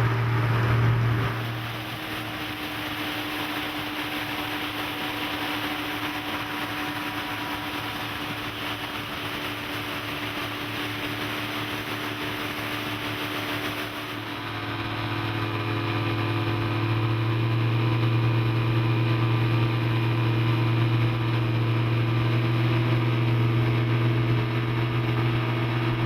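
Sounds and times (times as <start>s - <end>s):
outboard engines humming: 0.0s - 26.0s.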